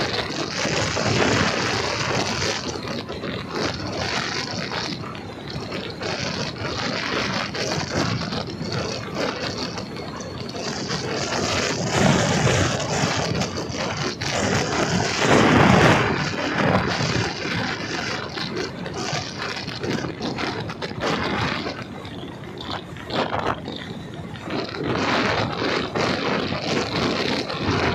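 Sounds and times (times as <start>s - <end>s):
motorcycle engine: 0.0s - 27.9s
wind rush: 0.0s - 27.9s.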